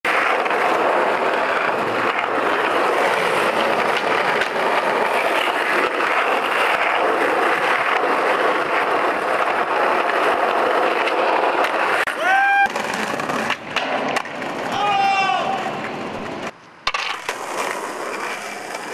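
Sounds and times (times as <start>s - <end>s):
skateboard rolling on asphalt: 0.0s - 18.9s.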